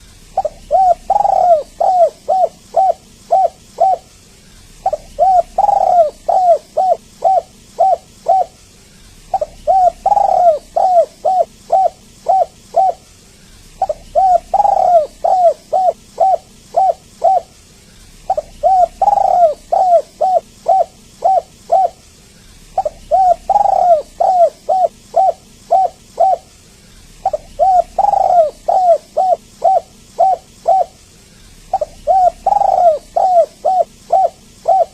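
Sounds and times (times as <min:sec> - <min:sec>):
dove cooing: 0:00.0 - 0:17.6, 0:18.2 - 0:22.0, 0:22.6 - 0:31.0, 0:31.6 - 0:34.9.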